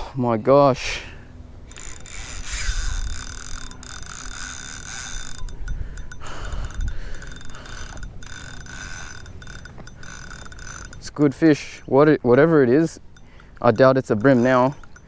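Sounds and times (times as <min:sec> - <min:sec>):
fishing reel drag buzzing: 0:01.6 - 0:15.0.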